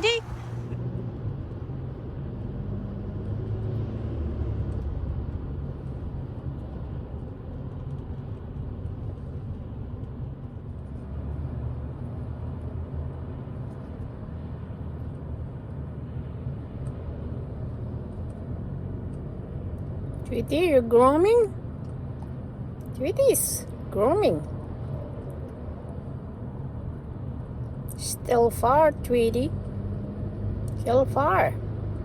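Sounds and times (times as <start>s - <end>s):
car road and engine noise: 0.0s - 32.0s.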